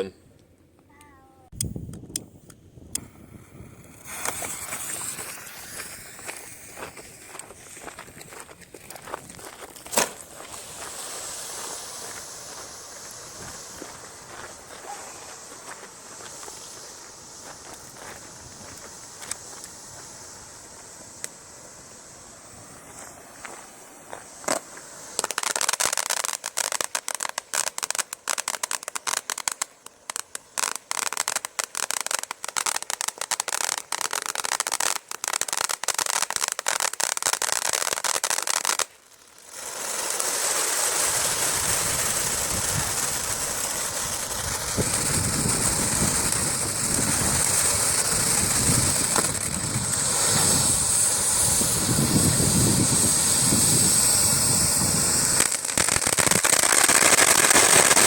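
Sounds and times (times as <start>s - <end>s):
firework crackling pops: 0.8s - 58.0s
firework hissing roar: 2.8s - 58.0s.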